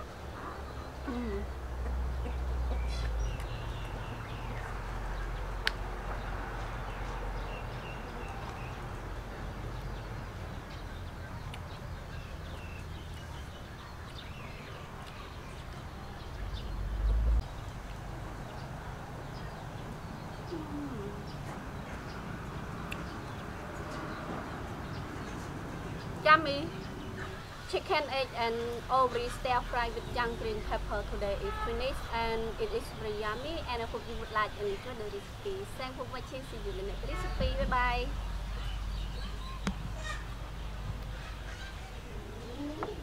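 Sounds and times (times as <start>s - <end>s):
birds calling and chirping: 0.0s - 43.0s.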